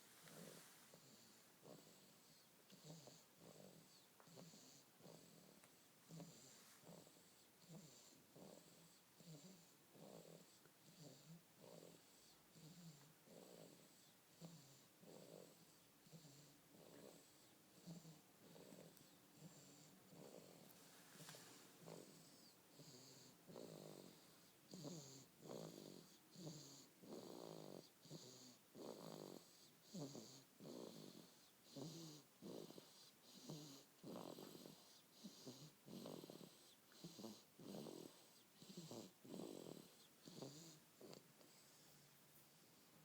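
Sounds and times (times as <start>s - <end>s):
baby snoring softly: 0.0s - 42.9s.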